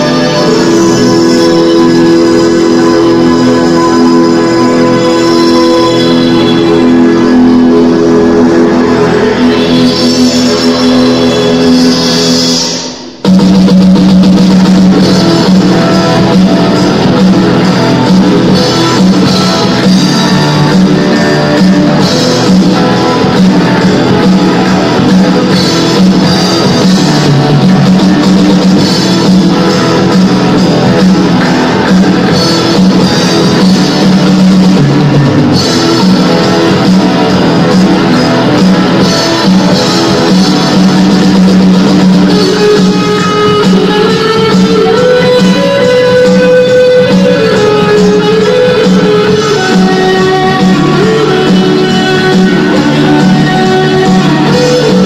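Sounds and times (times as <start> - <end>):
drum kit: 0.0 - 55.0
electric guitar: 0.0 - 55.0
live rock band playing: 0.0 - 55.0.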